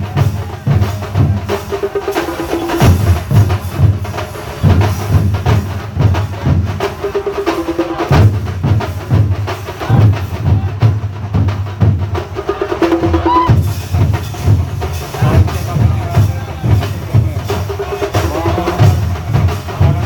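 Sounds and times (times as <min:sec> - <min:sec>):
drum ensemble fast beat: 0:00.0 - 0:20.0.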